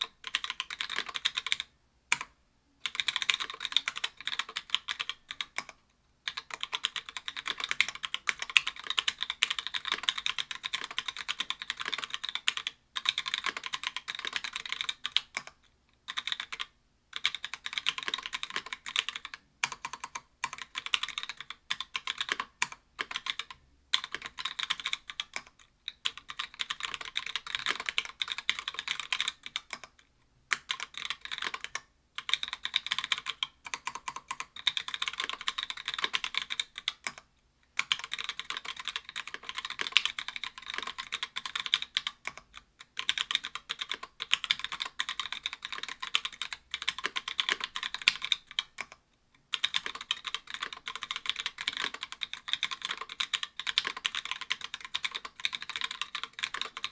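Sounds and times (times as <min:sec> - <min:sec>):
typing on mechanical keyboard: 0:00.0 - 0:56.9.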